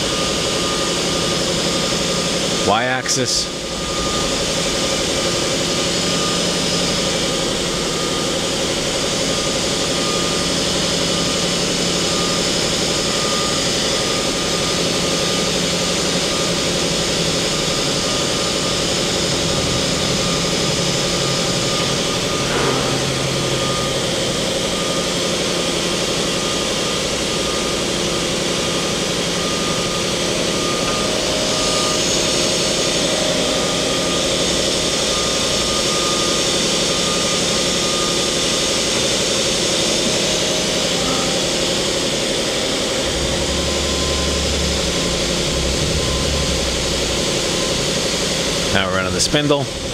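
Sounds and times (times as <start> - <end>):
machine hum with constant tones: 0.0 - 49.9.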